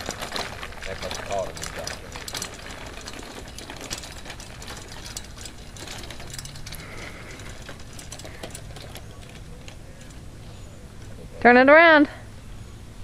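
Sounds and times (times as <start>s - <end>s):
tricycle wheels crunching on gravel: 0.0s - 12.0s.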